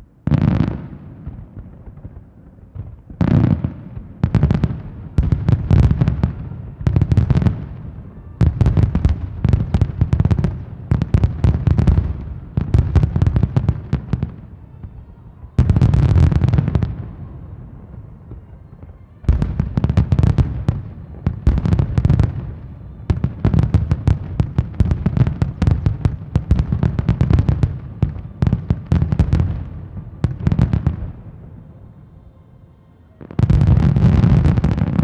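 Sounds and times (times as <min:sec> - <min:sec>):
fireworks bursting and crackling: 0:00.0 - 0:32.0, 0:33.2 - 0:35.0.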